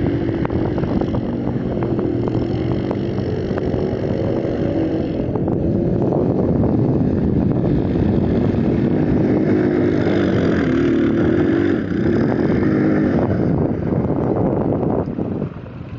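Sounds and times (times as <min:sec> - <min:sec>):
atv engine running hard: 0:00.0 - 0:15.9.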